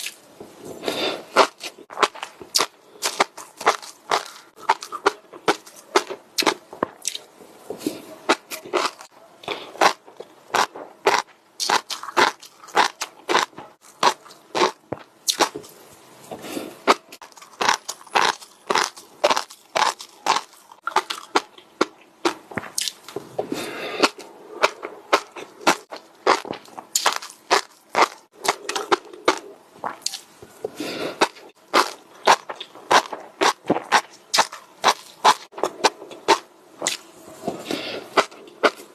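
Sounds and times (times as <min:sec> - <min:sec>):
chewing crunchy food: 0:00.8 - 0:38.9.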